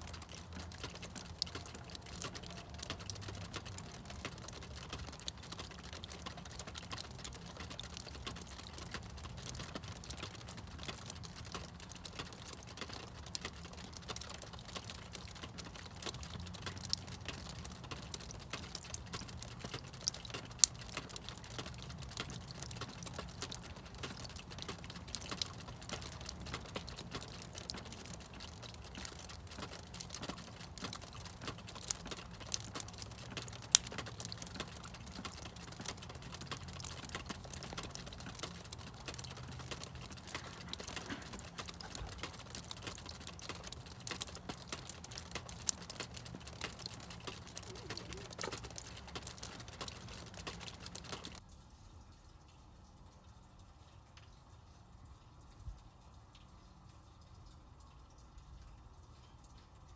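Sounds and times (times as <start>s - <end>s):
water dripping and pattering: 0.0s - 59.9s.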